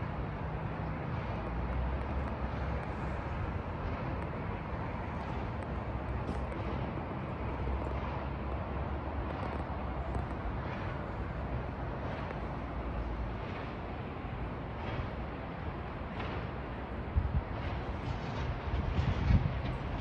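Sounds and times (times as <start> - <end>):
distant traffic hiss: 0.0 - 20.0
wind rumble on microphone: 0.0 - 20.0.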